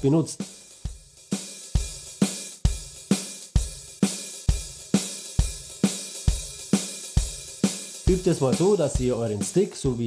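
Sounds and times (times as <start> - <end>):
bass drum and snare drum: 0.0 - 10.0
shuffled hi-hat pattern: 0.0 - 10.0.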